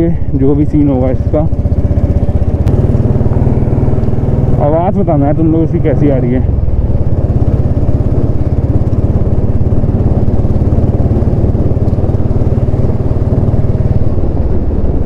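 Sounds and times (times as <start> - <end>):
motorcycle engine thumping: 0.6 - 15.0.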